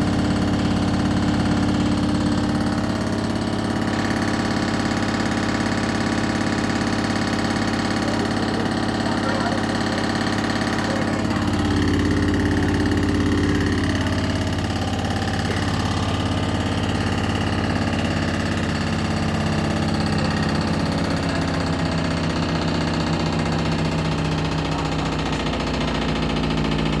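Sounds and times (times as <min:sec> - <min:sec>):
fast rattling vibration: 0:00.0 - 0:27.0
washing machine spinning: 0:00.0 - 0:27.0.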